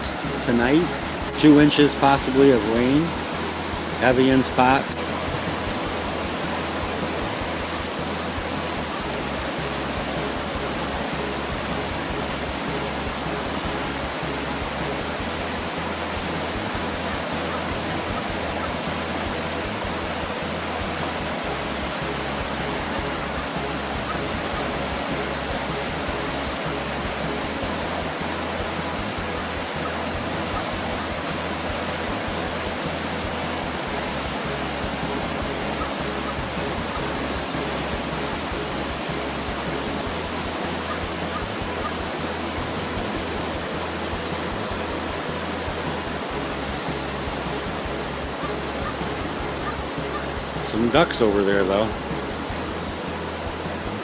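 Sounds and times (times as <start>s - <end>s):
rushing creek water: 0.0s - 54.0s.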